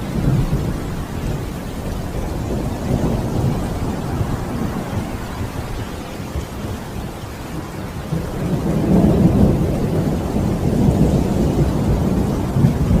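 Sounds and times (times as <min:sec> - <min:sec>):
low rumbling thunder: 0:00.0 - 0:13.0
rain: 0:00.0 - 0:13.0.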